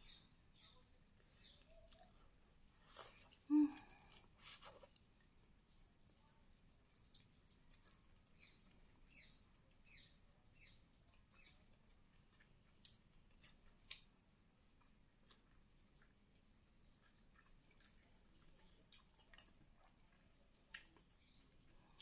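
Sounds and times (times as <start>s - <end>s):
chewing and mouth clicks: 0.6s - 22.0s.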